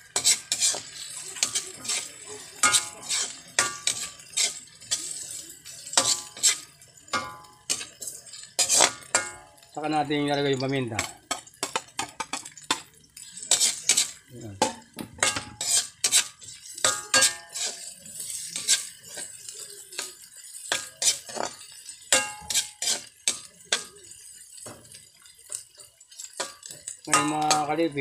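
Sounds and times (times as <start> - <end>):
metal spatula scraping wok: 0.0 - 10.2, 11.0 - 28.0
food sauteing in oil: 0.0 - 28.0.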